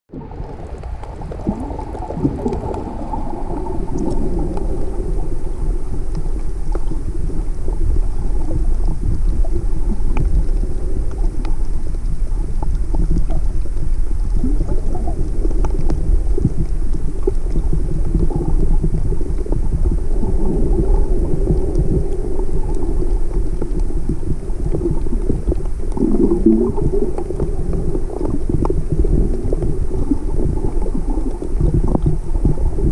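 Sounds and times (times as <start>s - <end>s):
small underwater clicks: 0.1s - 32.9s
underwater rumble of moving water: 0.1s - 32.9s.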